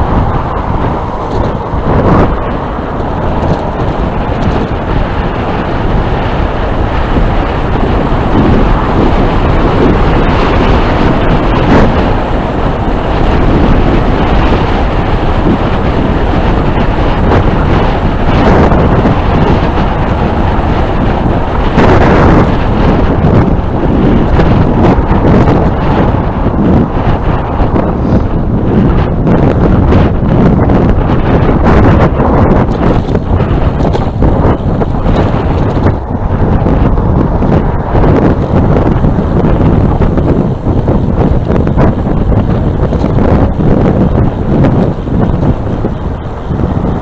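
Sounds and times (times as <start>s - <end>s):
wind rush on microphone: 0.0s - 47.0s.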